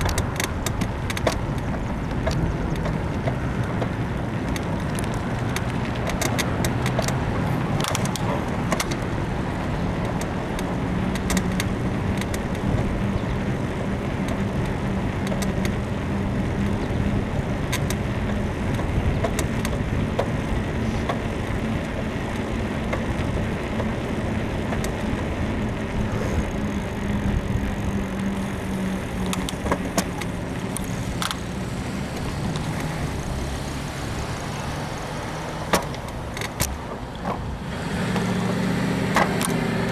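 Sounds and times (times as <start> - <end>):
bicycle frame clicks and creaks: 0.0 - 39.9
wind and tyre noise: 0.0 - 39.9.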